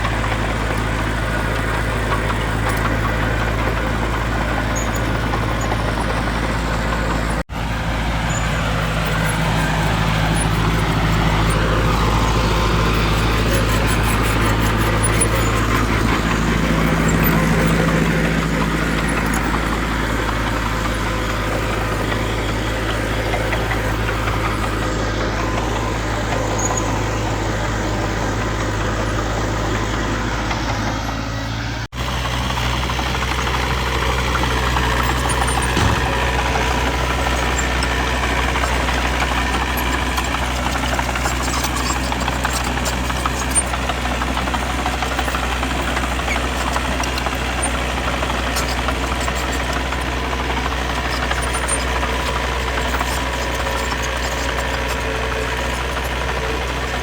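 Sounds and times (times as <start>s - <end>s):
diesel engines clattering hum: 0.0s - 57.0s.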